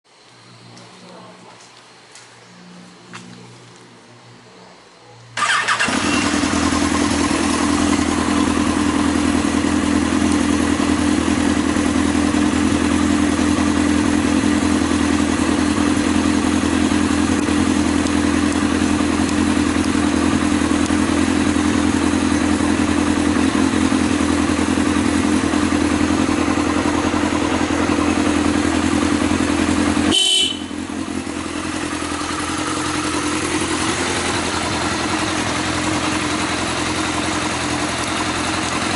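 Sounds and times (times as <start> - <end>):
motorcycle engine starting and idling: 5.4 - 38.9.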